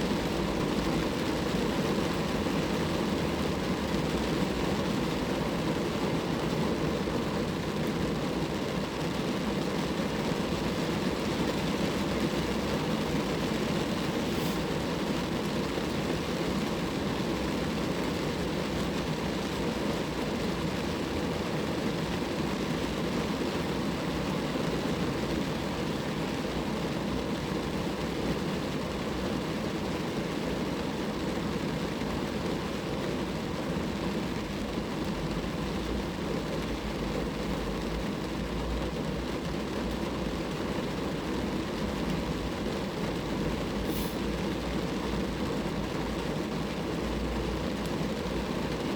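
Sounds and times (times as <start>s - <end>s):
rain falling on a car: 0.0s - 48.9s.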